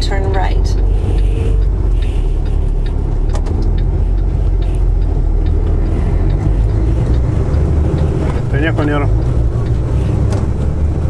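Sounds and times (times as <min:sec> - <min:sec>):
light ticks: 0:00.0 - 0:11.0
truck diesel engine rumbling: 0:00.0 - 0:11.0.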